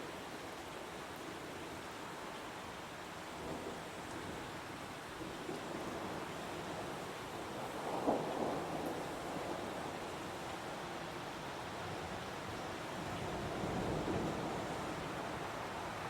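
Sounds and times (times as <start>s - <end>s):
heavy rain in forest: 0.0s - 16.0s.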